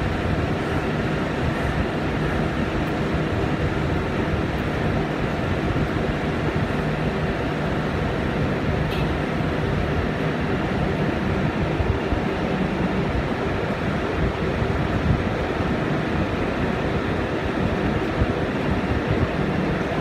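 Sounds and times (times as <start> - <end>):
constant rushing noise: 0.0 - 20.0
diesel engine drone: 0.0 - 20.0.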